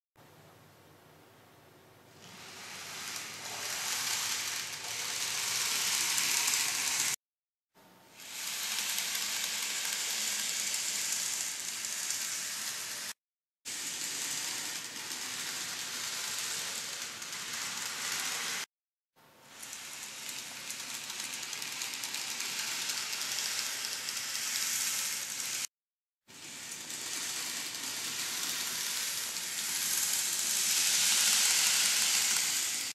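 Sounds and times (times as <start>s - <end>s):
model train rattling: 2.4s - 7.2s, 8.2s - 13.1s, 13.7s - 18.7s, 19.5s - 25.7s, 26.4s - 32.9s.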